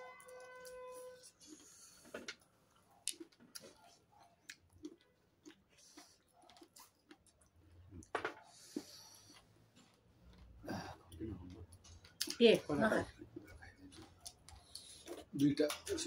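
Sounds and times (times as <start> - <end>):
people chewing: 0.0 - 16.0.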